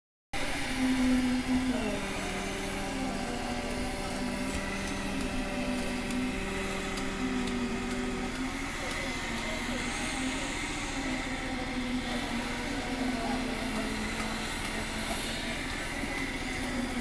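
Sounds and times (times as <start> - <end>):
crowd chatter: 0.4 - 17.0
engine humming: 0.4 - 17.0.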